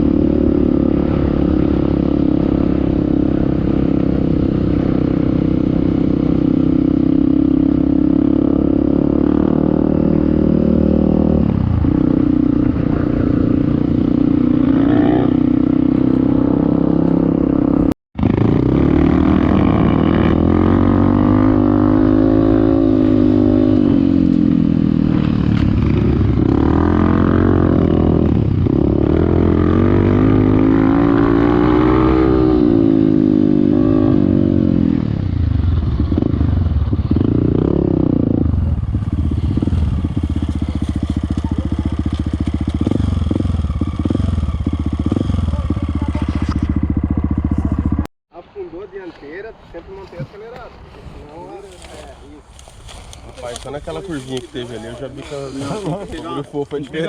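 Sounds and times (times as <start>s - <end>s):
motorcycle engine revving: 0.0s - 48.1s.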